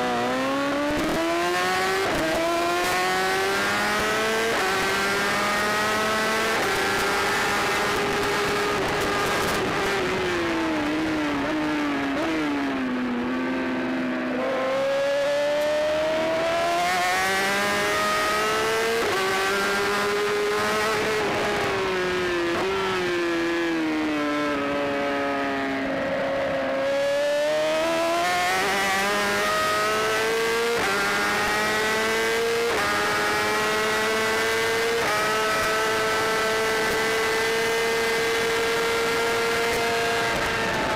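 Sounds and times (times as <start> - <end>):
motorbike engine at high revs: 0.0 - 40.9.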